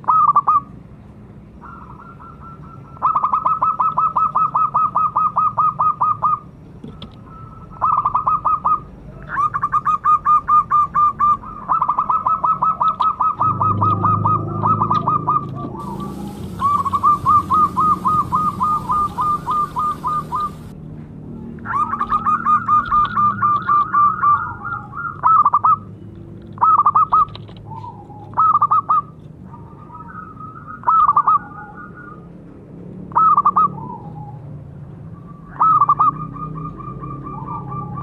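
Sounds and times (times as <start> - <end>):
doves cooing rapidly: 1.6 - 6.5, 7.2 - 20.7, 21.6 - 25.9, 26.6 - 32.3, 33.1 - 38.0.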